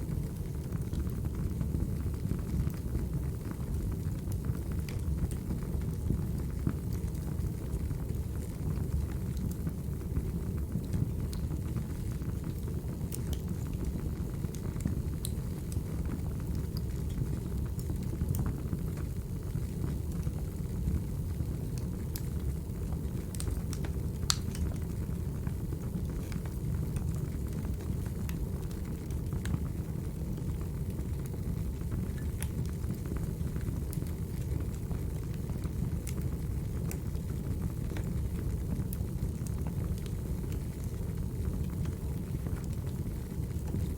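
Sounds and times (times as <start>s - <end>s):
burning logs rumbling: 0.2s - 43.9s
fire pops and snaps: 4.2s - 7.8s, 10.6s - 21.0s, 21.6s - 43.9s.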